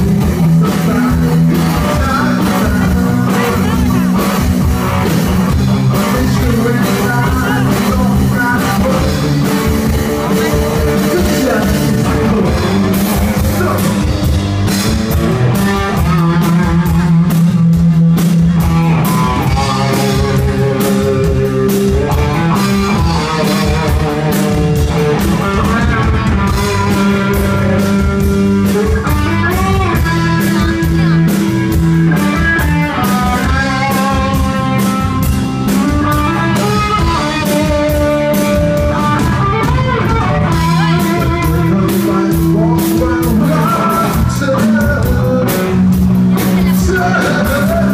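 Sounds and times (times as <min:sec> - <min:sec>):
bass guitar: 0:00.0 - 0:47.9
drum kit: 0:00.0 - 0:47.9
electric guitar: 0:00.0 - 0:47.9.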